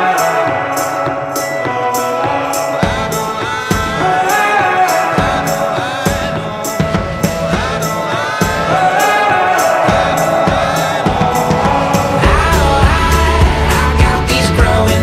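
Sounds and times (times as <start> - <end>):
song with steady drum beat: 0.0 - 15.0.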